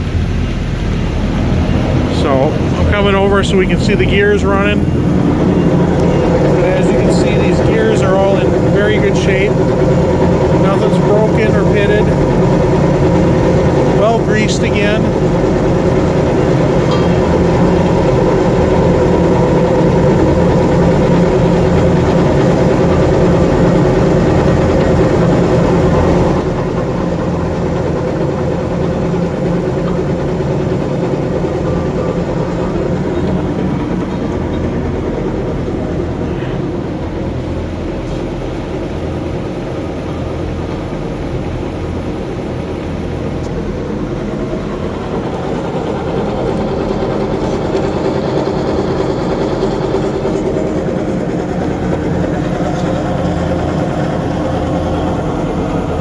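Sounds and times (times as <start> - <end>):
electric motor hum and gear whir: 0.0 - 56.0.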